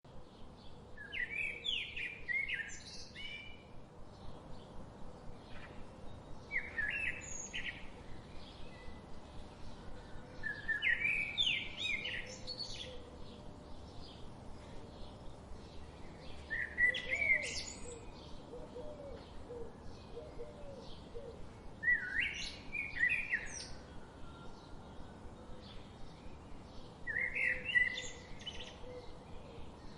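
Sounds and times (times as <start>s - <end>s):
faint outdoor hiss: 0.0s - 29.9s
bird singing high phrases: 5.6s - 29.9s.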